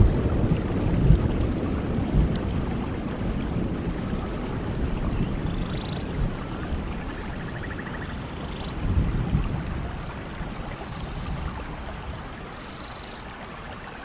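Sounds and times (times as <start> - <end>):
distant thunder rumble: 0.0 - 12.7
steady rain falling: 0.0 - 14.0.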